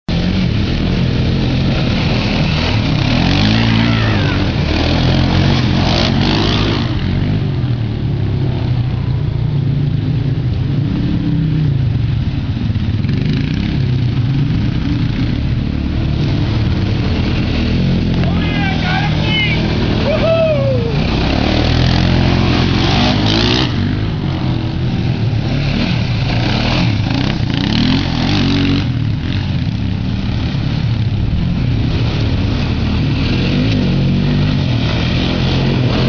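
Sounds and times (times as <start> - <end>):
atv engines revving: 0.1 - 36.0.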